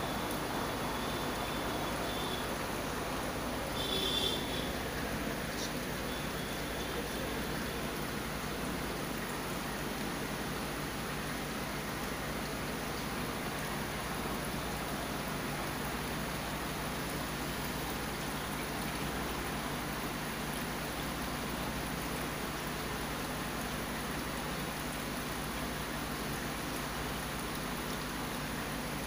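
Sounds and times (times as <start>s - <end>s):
water rushing and trickling: 0.0s - 29.0s.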